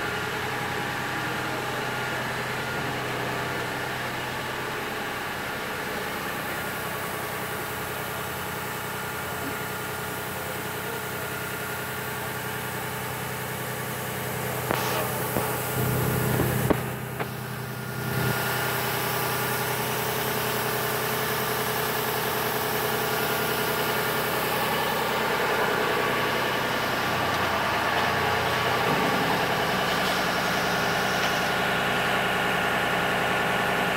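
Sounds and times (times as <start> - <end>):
industrial machinery humming: 0.0 - 33.9.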